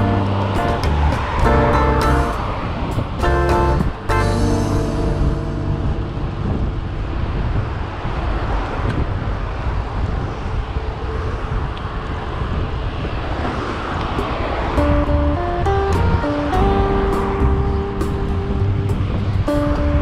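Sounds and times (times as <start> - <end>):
road and traffic noise: 0.0 - 20.0
wind rushing over microphone: 0.0 - 20.0.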